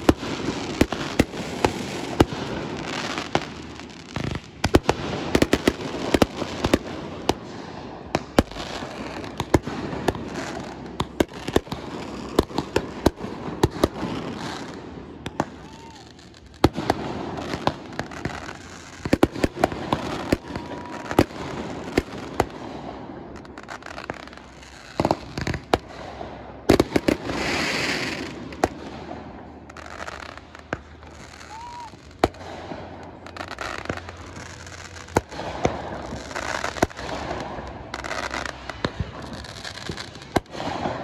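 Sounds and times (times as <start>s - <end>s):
fireworks bangs: 0.0s - 41.0s
fireworks hissing crackle: 0.0s - 41.0s.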